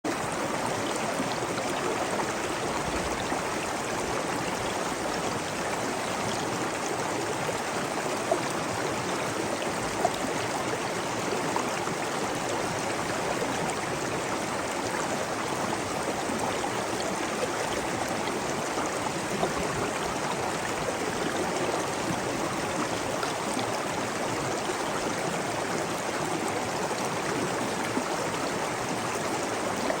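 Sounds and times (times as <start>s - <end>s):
stream water flowing: 0.1s - 30.0s.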